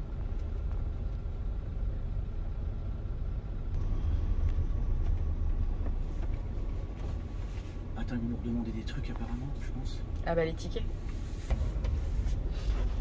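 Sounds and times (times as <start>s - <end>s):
motorhome engine rumble: 0.0s - 13.0s
road noise: 0.0s - 13.0s.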